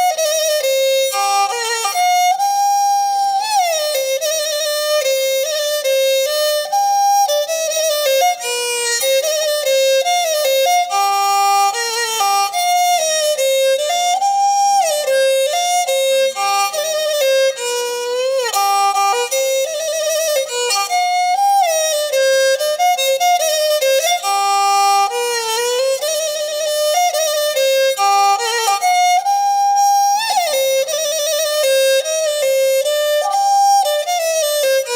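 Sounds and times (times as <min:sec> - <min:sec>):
solo bowed string melody: 0:00.0 - 0:34.9.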